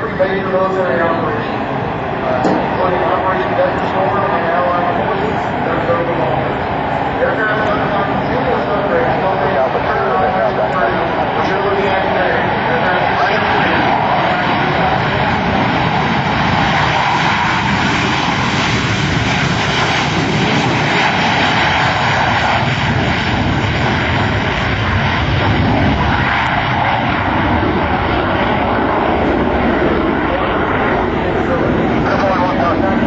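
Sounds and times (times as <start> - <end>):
jet engine roaring at takeoff: 0.0 - 33.0.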